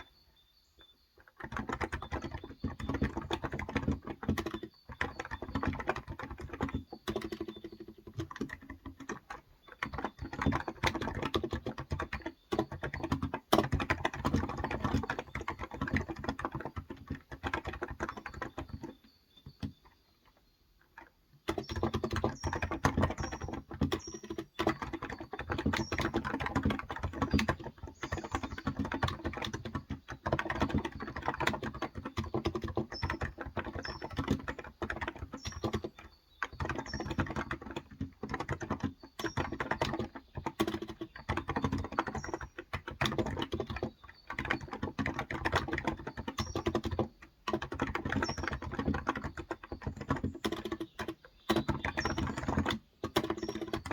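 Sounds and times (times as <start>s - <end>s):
faint high bird chirps: 0.0s - 13.4s, 14.5s - 42.6s, 48.0s - 53.9s
soft keyboard typing: 1.2s - 53.9s.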